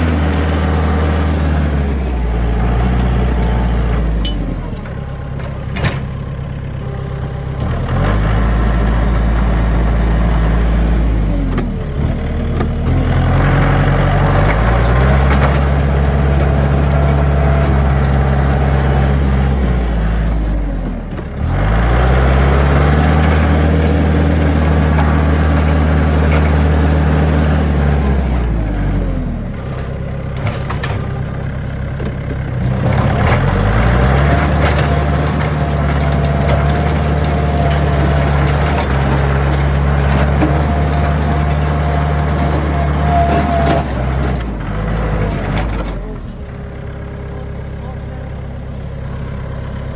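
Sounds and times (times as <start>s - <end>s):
tractor engine revving: 0.0s - 49.9s.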